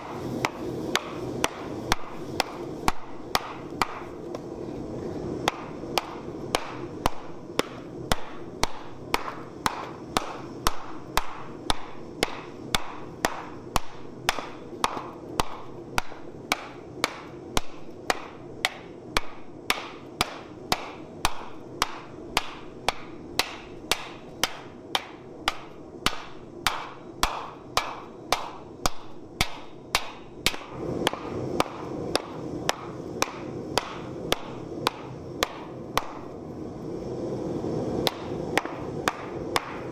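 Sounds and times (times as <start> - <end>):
hammer striking hot steel: 0.0 - 36.4, 38.0 - 39.9
steady low rumble: 0.0 - 39.9.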